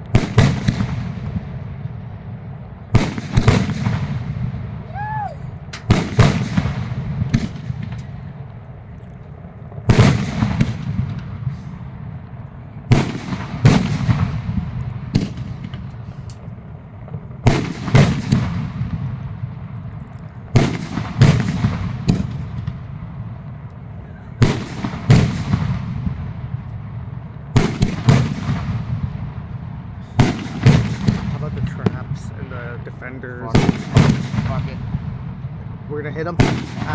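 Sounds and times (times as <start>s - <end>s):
fireworks booming: 0.0s - 36.9s.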